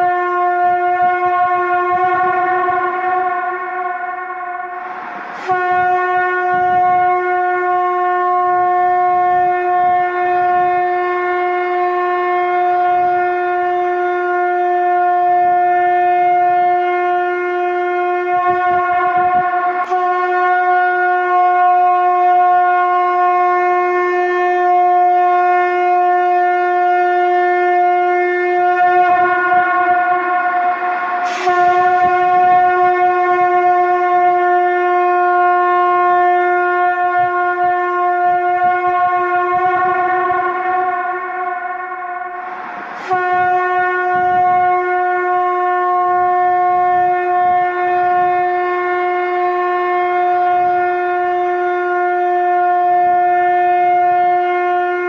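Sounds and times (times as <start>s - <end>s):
conch shell blown: 0.0s - 55.0s.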